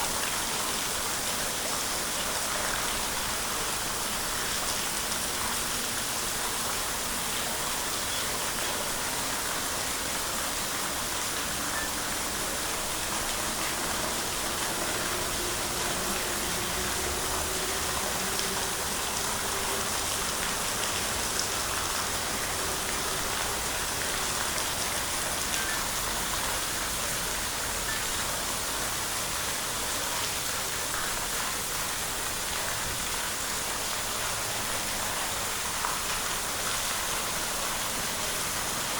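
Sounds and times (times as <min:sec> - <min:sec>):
falling water hiss: 0:00.0 - 0:38.9.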